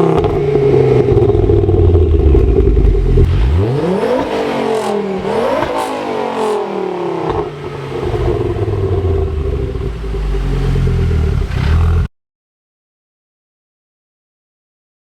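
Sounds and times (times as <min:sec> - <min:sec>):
car engine revving: 0:00.0 - 0:12.1.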